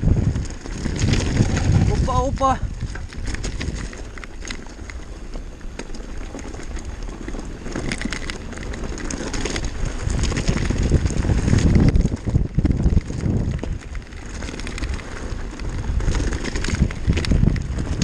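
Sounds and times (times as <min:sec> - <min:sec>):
mountain bike rattling over rocks: 0:00.0 - 0:18.0
wind rumble on microphone: 0:00.0 - 0:18.0.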